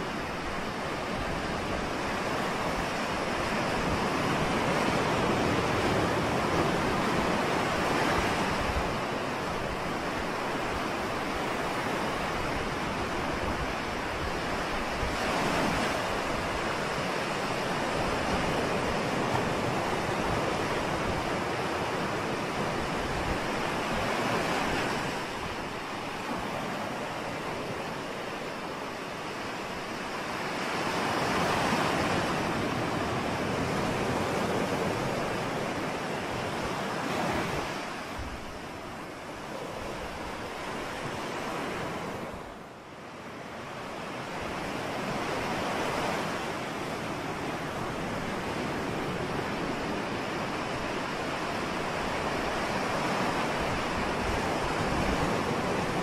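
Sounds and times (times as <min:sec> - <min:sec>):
ocean surf breaking on a beach: 0:00.0 - 0:56.0.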